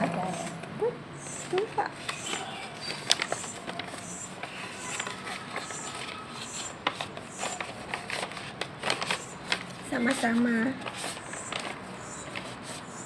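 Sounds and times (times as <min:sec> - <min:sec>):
paper rustling and crinkling: 0:01.4 - 0:13.0.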